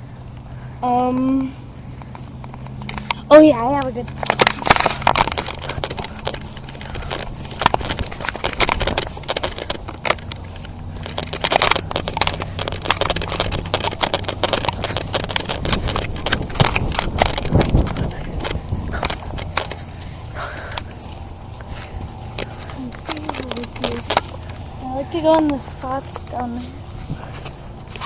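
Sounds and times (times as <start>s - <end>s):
crackling and crunching leaves: 0.0s - 28.0s
low steady hum: 0.0s - 28.0s.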